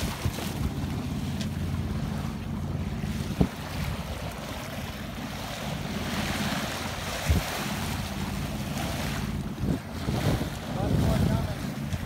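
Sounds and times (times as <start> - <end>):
boat engine humming: 0.0 - 12.0
water splashing along hull: 0.0 - 12.0.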